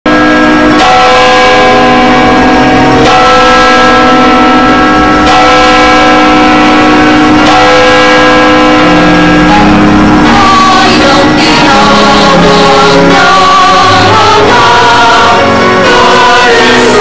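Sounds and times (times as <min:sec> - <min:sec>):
long-held chords theme music: 0:00.1 - 0:17.0.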